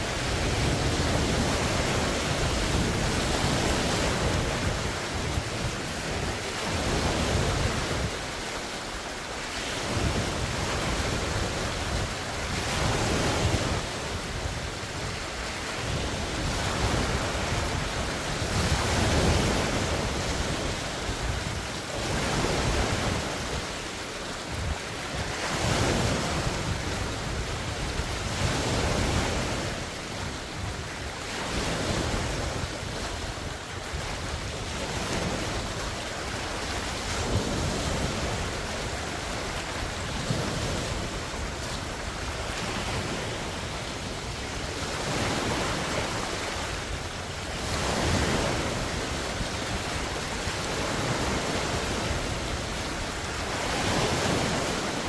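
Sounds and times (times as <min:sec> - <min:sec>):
lake waves breaking ashore: 0:00.0 - 0:55.0
wind on microphone: 0:00.0 - 0:55.0.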